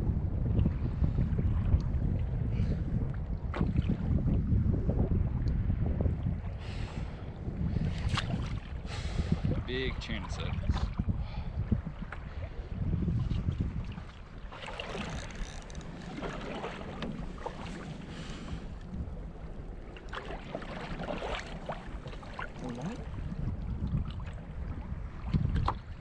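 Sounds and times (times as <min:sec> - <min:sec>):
wind buffeting microphone: 0:00.0 - 0:26.0
water lapping against kayak hull: 0:00.3 - 0:26.0.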